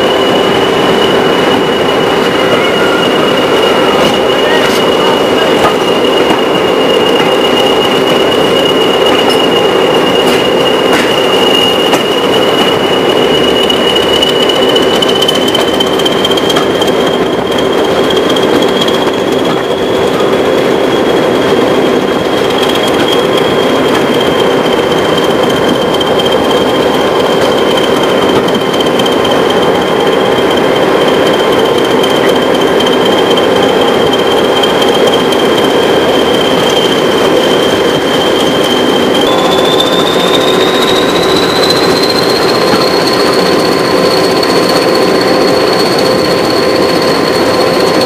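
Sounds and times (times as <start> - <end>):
diesel locomotive engine running hard: 0.0 - 48.0
high turbocharger whistle: 0.0 - 48.0.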